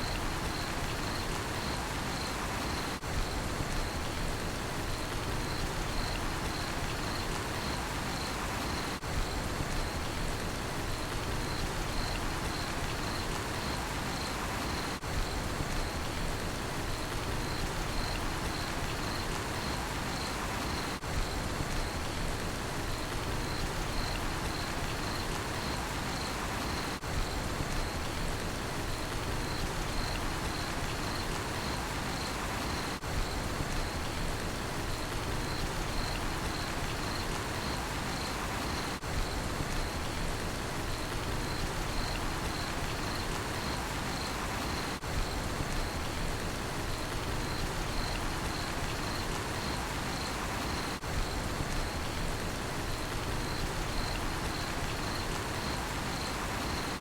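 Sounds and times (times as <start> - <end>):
cricket chirping: 0.0 - 10.2, 10.9 - 16.2, 17.0 - 22.1, 22.8 - 28.2, 28.9 - 57.0
steady rain falling: 0.0 - 57.0.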